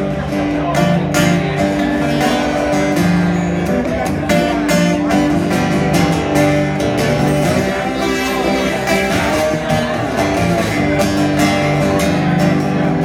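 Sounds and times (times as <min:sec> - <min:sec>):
slide acoustic guitar blues: 0:00.0 - 0:13.0.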